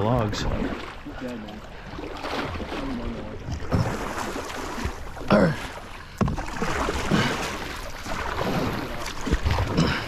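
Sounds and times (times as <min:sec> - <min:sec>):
water and canoe hull noise: 0:00.0 - 0:10.0.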